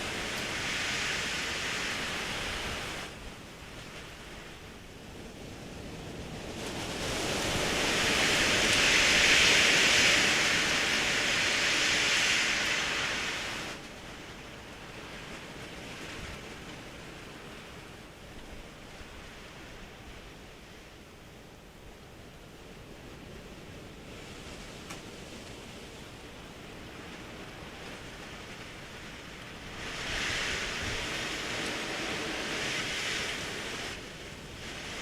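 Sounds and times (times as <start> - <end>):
strong wind gusting: 0.0 - 35.0.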